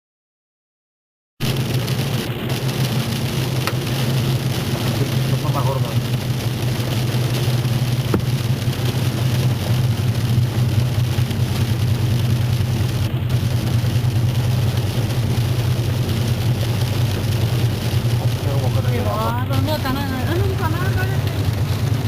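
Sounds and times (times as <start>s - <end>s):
car cabin hum: 1.4s - 22.0s
heavy rain and hail on car: 1.4s - 22.0s.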